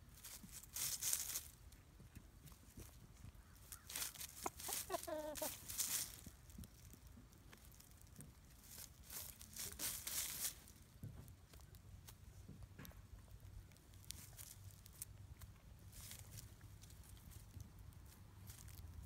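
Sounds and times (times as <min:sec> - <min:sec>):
dry leaves rustling: 0:00.0 - 0:01.8, 0:02.5 - 0:12.4, 0:13.3 - 0:19.0.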